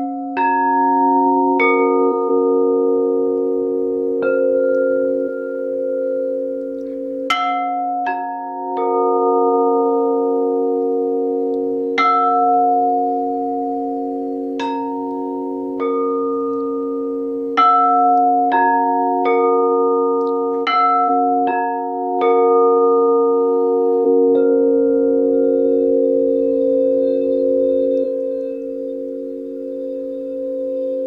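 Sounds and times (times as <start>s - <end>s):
crystal singing bowls ringing: 0.0s - 31.0s.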